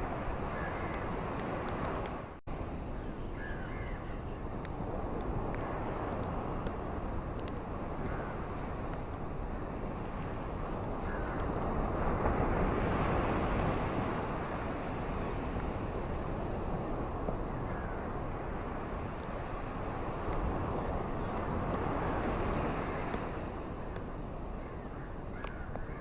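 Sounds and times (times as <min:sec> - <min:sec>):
rain with wind: 0:00.0 - 0:26.0.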